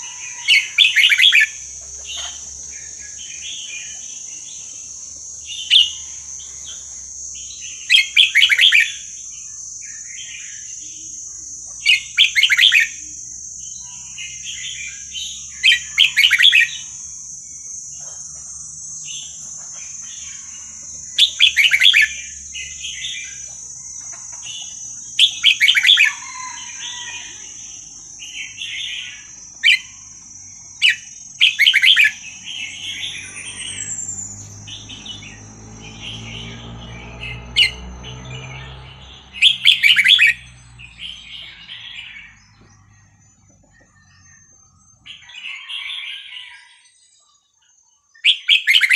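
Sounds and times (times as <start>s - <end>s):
high-pitched drone: 0.0s - 45.2s
bird chirping: 0.0s - 48.9s.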